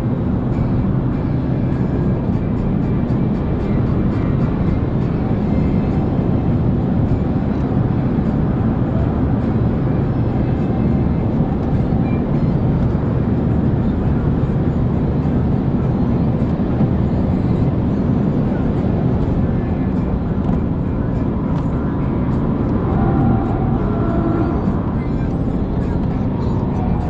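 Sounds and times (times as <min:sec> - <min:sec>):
car engine at speed: 0:00.0 - 0:27.0.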